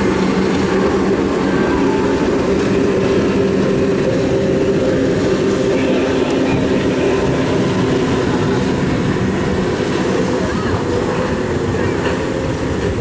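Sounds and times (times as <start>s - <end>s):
powerboat engines droning: 0.0s - 13.0s.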